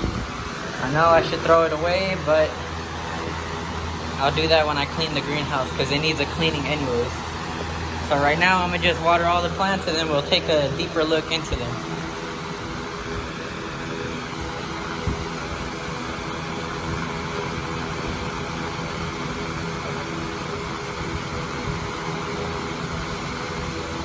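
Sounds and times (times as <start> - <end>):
electric fans humming: 0.0 - 24.0.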